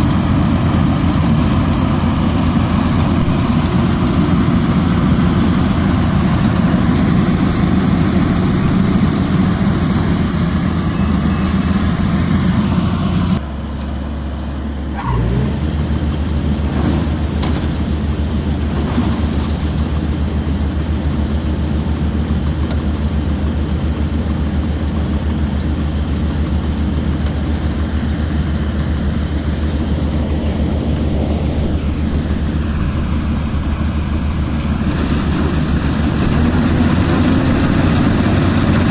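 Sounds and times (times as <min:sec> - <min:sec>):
combine harvester diesel engine running: 0:00.0 - 0:38.9.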